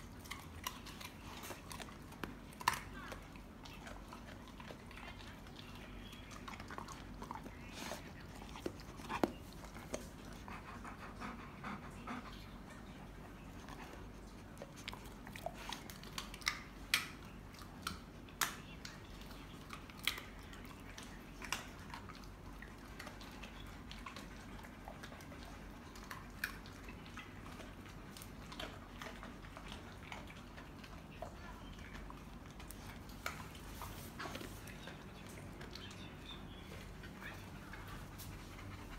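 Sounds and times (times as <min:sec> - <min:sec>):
dog chewing crunchy food: 0:00.0 - 0:11.4, 0:13.1 - 0:38.9.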